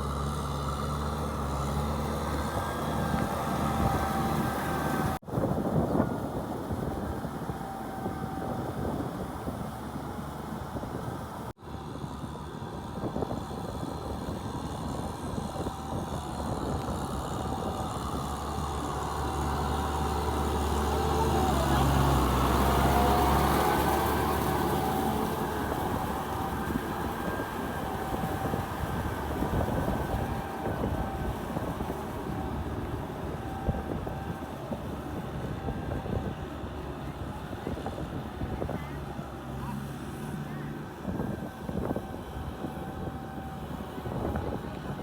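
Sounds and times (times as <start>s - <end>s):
tractor engine running under load: 0.0s - 45.0s.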